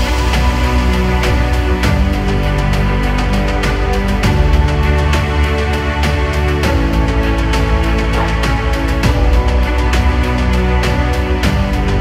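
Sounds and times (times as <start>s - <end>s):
held chords over deep bass: 0.0s - 12.0s.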